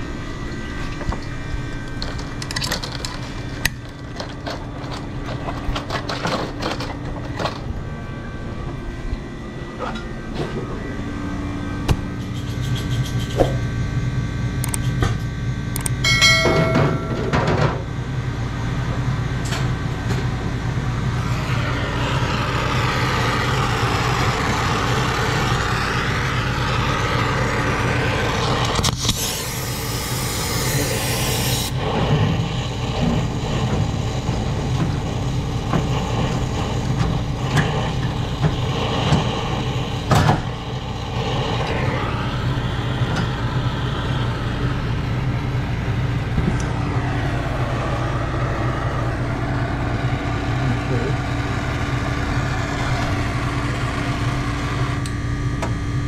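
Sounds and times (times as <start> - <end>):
torch flame rumble and hiss: 0.0 - 12.4, 17.5 - 56.0.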